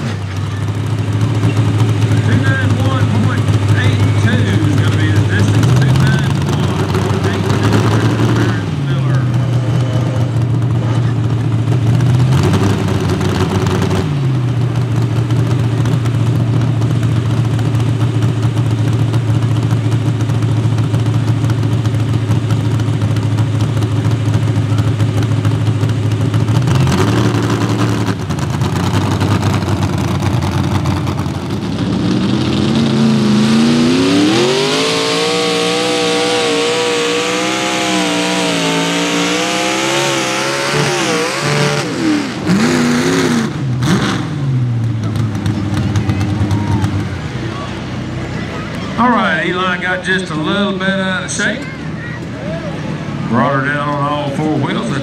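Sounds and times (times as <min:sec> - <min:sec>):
tractor engine idling and revving: 0:00.0 - 0:55.0.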